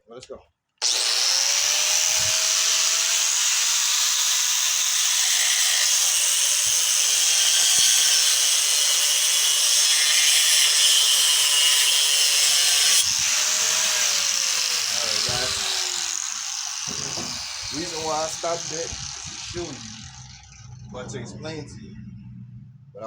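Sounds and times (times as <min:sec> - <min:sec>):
angle grinder cutting steel: 0:00.8 - 0:20.9.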